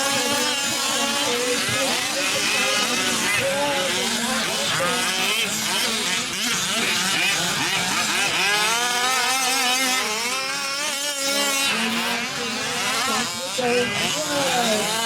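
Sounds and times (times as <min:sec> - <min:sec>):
small two-stroke engines revving: 0:00.0 - 0:15.0.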